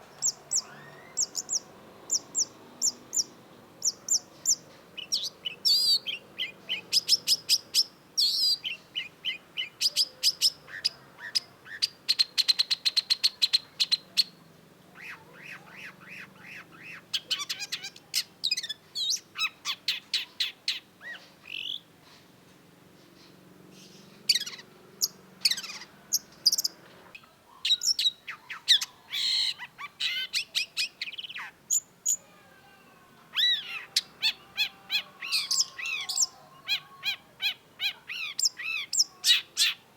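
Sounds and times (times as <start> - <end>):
bird singing high chirps: 0.0 - 21.9, 23.2 - 32.4, 33.3 - 39.9.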